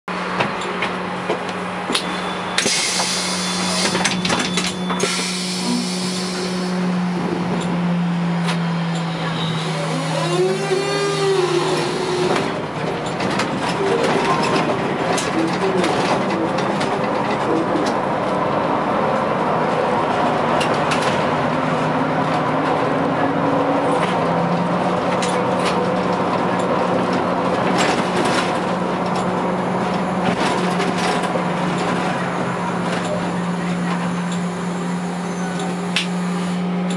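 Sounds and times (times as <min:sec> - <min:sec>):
road and tyre noise: 0:00.1 - 0:36.9
trolleybus electric hum: 0:00.1 - 0:36.9.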